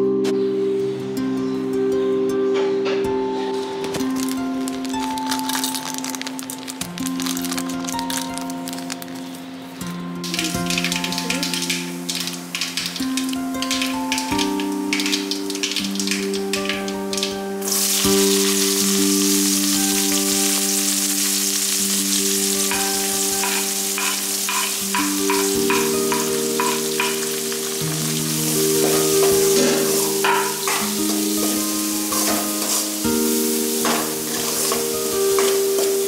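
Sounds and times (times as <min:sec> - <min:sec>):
food sizzling in hot oil: 0:04.2 - 0:09.4, 0:10.2 - 0:36.0.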